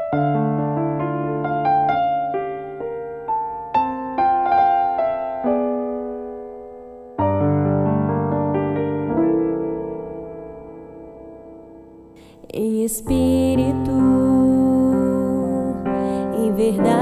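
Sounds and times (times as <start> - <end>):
solo piano chords: 0.0 - 17.0.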